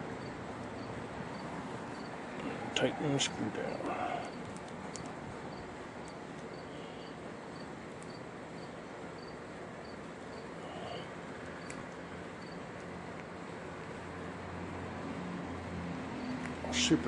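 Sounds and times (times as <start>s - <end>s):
background hiss: 0.0s - 13.7s.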